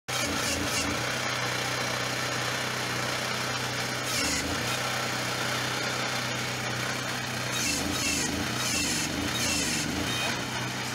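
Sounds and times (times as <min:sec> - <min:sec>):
digger engine running: 0:00.1 - 0:10.9.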